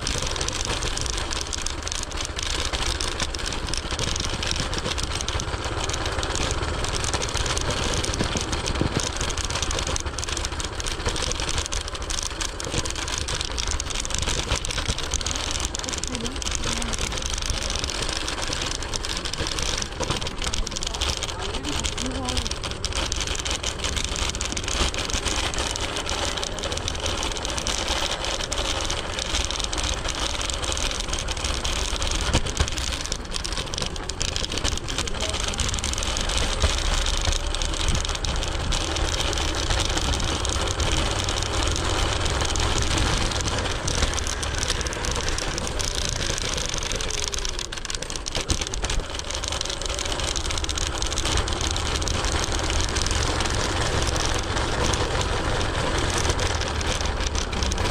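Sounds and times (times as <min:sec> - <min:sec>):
electric scooter rumble: 0:00.0 - 0:57.9
small clicks and rattles: 0:00.0 - 0:57.9.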